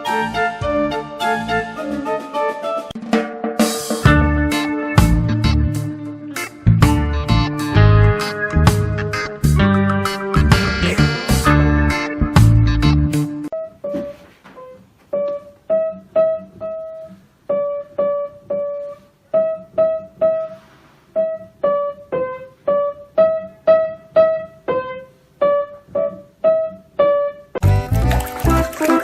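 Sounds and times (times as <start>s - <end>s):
simple keyboard melody: 0.0s - 3.0s, 3.6s - 20.4s, 21.2s - 29.0s.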